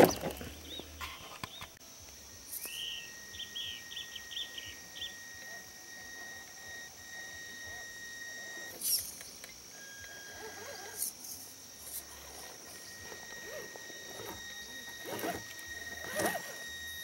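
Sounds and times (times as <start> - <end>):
bird chirping: 0.0 - 17.0
faint high-pitched hum: 0.0 - 17.0.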